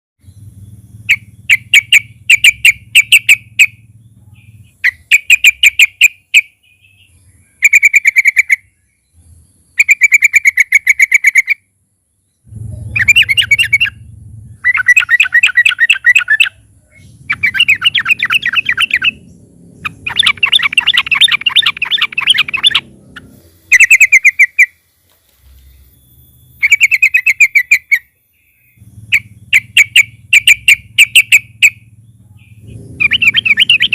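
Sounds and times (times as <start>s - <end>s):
bulbul singing chattering phrases: 0.2s - 11.7s, 12.4s - 33.9s.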